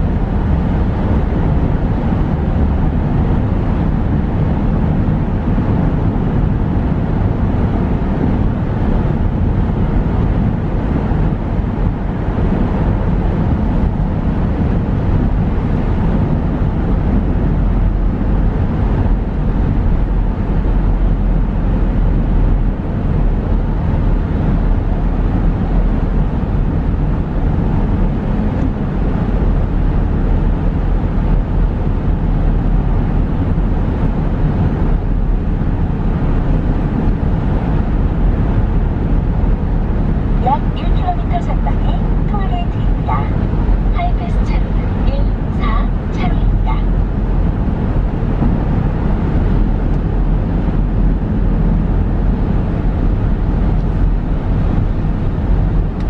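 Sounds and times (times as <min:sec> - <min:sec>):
car cruising through tunnel: 0:00.0 - 0:56.0.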